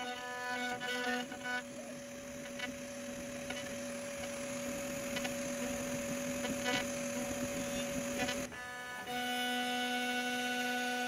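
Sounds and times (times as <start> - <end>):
bit carving into wood: 0.0 - 11.0
router spindle whining: 0.0 - 11.0.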